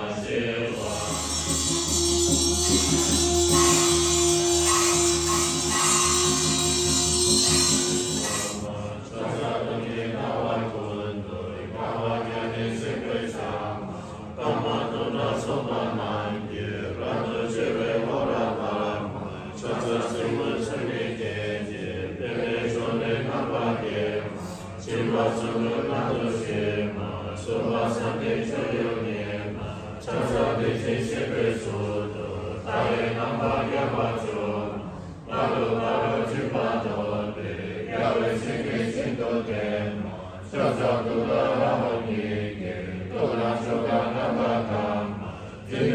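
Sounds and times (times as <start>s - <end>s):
group chanting in unison: 0.0s - 45.9s.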